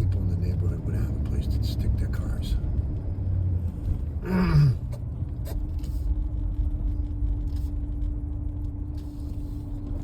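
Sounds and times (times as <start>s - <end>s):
truck driving rumble: 0.0s - 10.0s.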